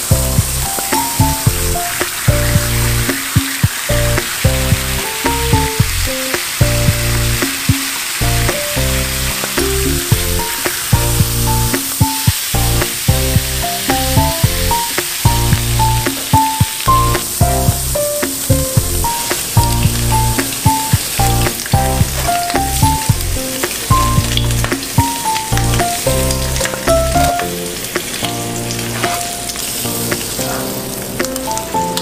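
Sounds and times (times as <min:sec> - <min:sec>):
meat sizzling on a griddle: 0:00.0 - 0:32.0
music with plucked notes: 0:00.0 - 0:32.0.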